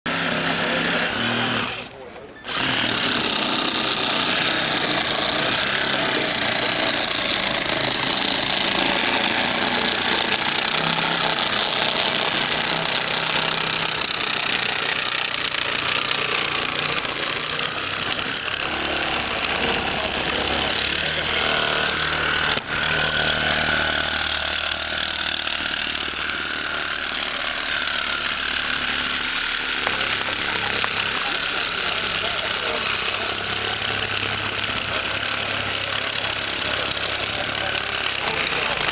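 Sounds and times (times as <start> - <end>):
power saw cutting glass: 0.0 - 38.9.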